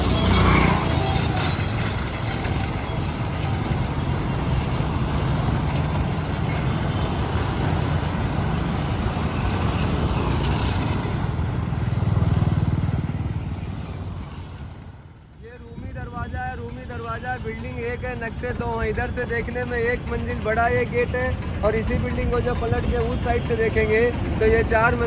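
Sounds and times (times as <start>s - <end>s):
passing vehicle engines: 0.0s - 25.0s.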